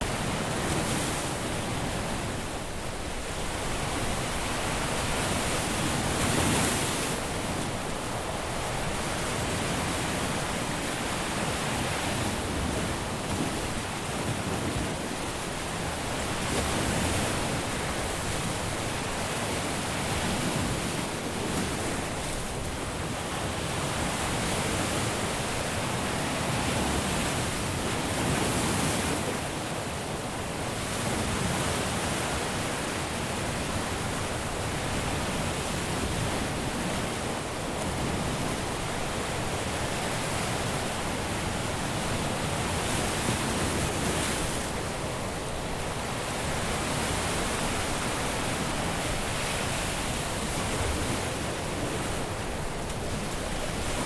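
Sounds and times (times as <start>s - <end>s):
surf washing on a beach: 0.0s - 54.0s.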